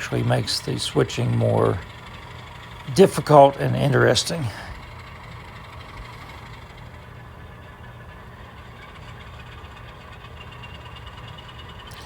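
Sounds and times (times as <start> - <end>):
model train motor humming: 0.0 - 12.0.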